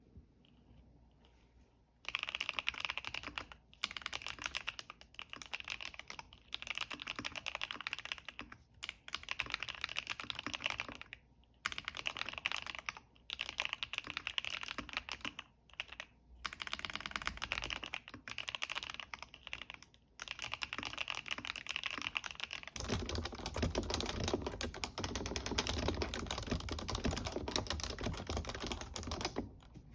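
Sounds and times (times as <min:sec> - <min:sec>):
fast typing on keyboard: 0:02.0 - 0:29.7.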